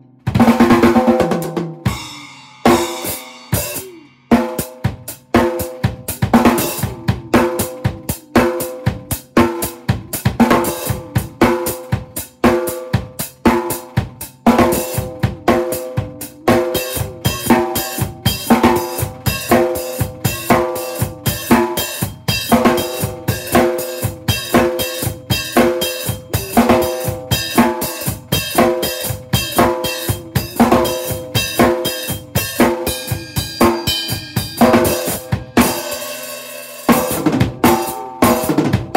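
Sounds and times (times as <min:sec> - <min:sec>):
drum kit played hard: 0:00.0 - 0:38.9.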